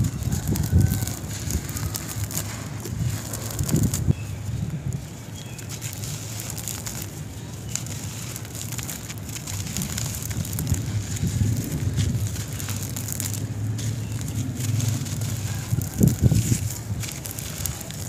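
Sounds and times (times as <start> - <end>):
hands crushing dry cement clumps: 0.0 - 18.0
low rumbling of hands pressing: 0.0 - 18.0
powder and crumbs trickling: 0.0 - 18.0.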